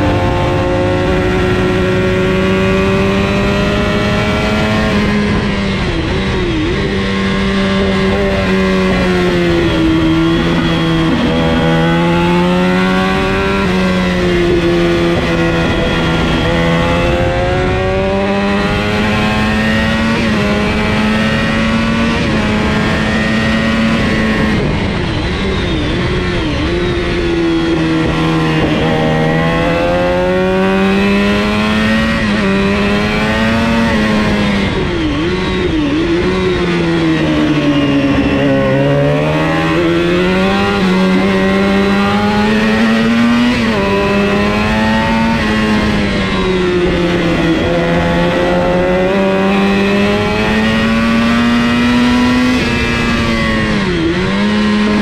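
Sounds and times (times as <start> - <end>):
racing motorcycle engine: 0.0 - 55.0
wind rush: 0.0 - 55.0.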